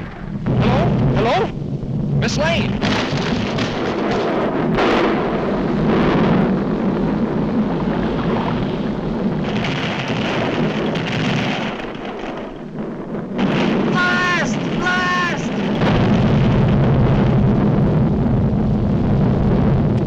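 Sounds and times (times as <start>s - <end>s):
cartoon volcano rumble and blasts: 0.0s - 20.0s.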